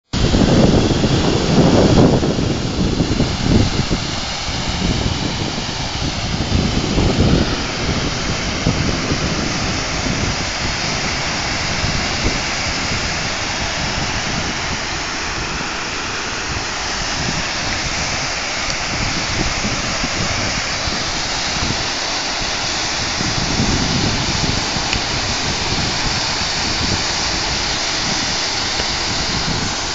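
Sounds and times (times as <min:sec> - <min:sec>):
low rumbling bursts: 0:00.2 - 0:29.9
waterfall rushing: 0:00.2 - 0:29.9.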